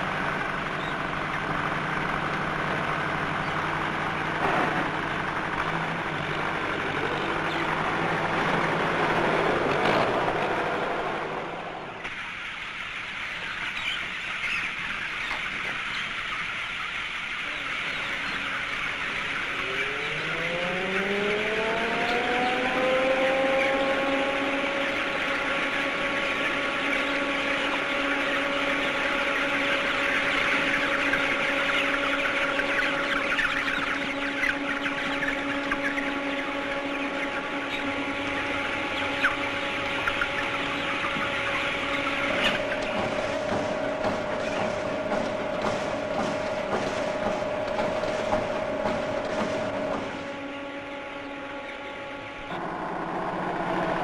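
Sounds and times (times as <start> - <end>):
machine motor humming: 0.0 - 12.2, 17.8 - 54.0
chicks cheeping: 0.0 - 54.0.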